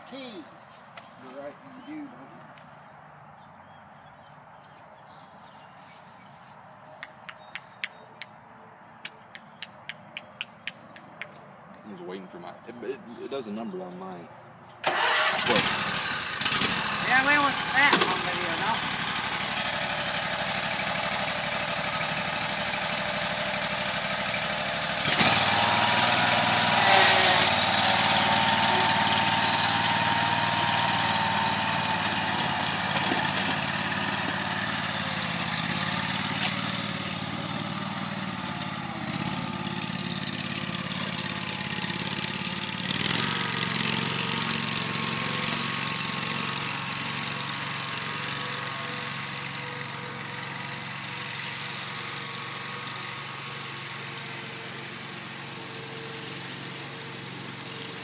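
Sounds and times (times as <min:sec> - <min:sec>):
lawn mower engines running: 0:08.8 - 0:58.0.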